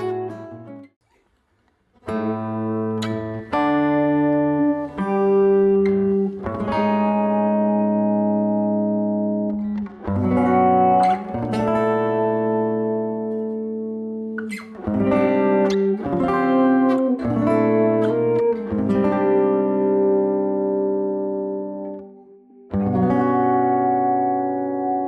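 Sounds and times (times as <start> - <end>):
guitar chords ringing: 0.0 - 0.9, 2.1 - 25.0.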